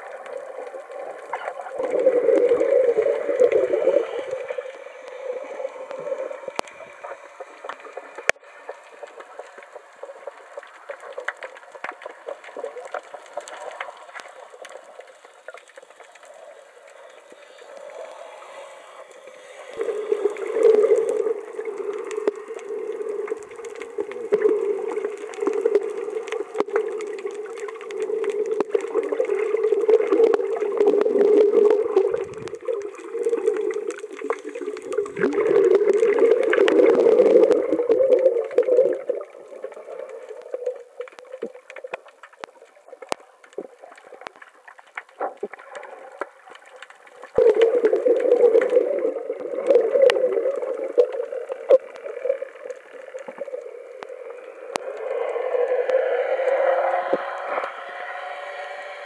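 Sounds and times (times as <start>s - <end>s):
muffled underwater water rush: 0.0s - 59.0s.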